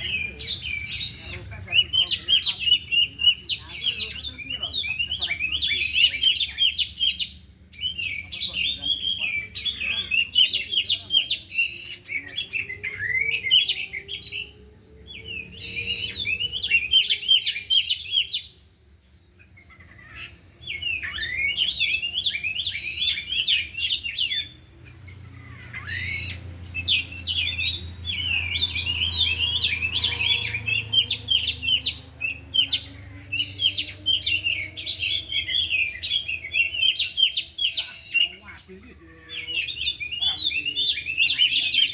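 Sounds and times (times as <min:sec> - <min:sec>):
songbirds singing high chirps and whistles: 0:00.0 - 0:41.9.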